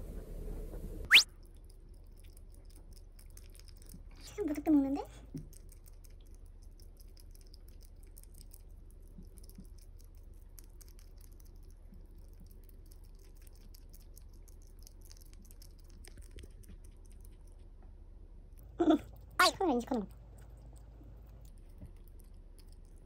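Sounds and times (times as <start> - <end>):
hedgehog licking and chewing: 1.1 - 17.9, 18.6 - 23.0.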